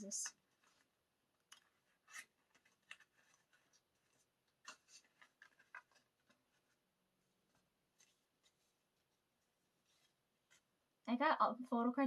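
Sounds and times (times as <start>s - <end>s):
paper packaging rustling: 0.0s - 10.8s.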